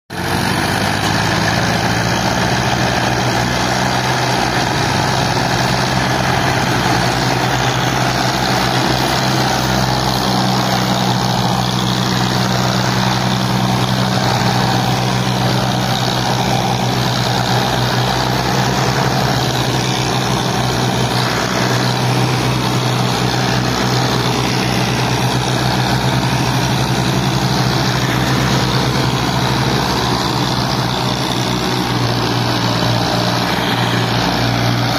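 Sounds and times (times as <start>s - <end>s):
tractor diesel engines running hard: 0.1s - 34.9s.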